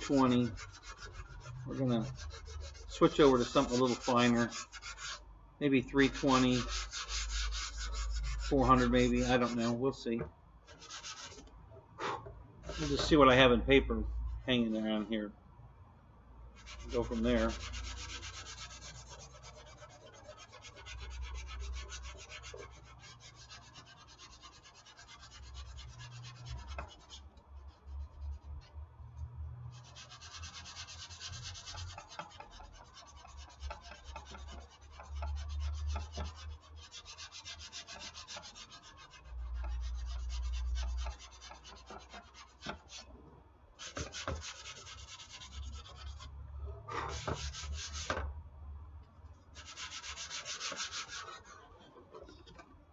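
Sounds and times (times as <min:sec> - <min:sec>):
sandpaper rasping on filler: 0:00.0 - 0:05.2, 0:05.9 - 0:09.8, 0:10.7 - 0:11.4, 0:12.6 - 0:13.4, 0:16.6 - 0:28.5, 0:29.7 - 0:43.1, 0:43.8 - 0:48.2, 0:49.6 - 0:51.6.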